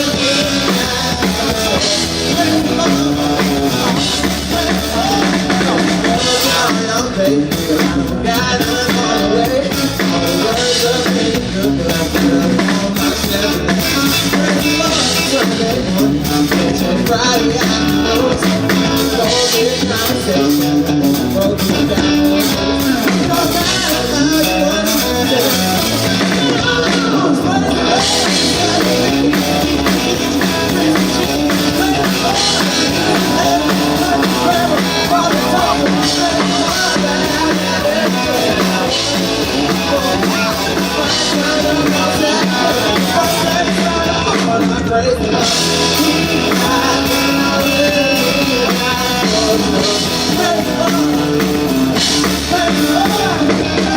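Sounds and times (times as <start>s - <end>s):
rock band playing with singing: 0.0s - 53.9s.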